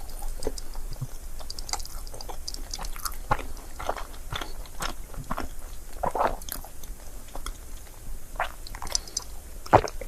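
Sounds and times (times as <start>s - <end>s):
chewing and biting food: 0.0s - 10.0s.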